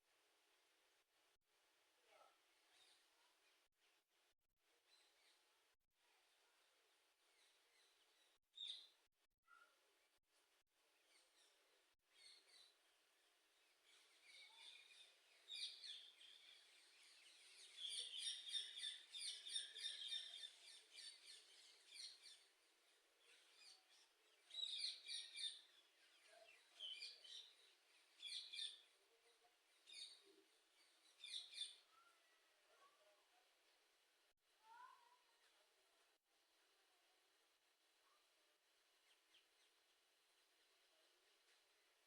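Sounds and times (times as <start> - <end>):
faint small birds chirping: 0.2 - 42.0.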